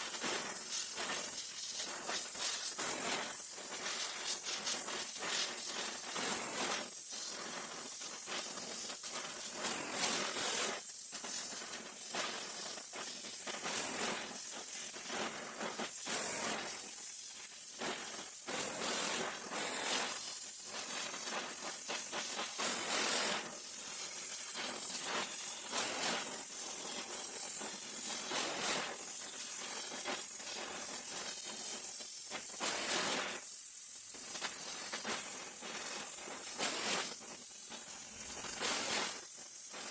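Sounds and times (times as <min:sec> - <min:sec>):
gas welding torch hissing: 0:00.0 - 0:39.9.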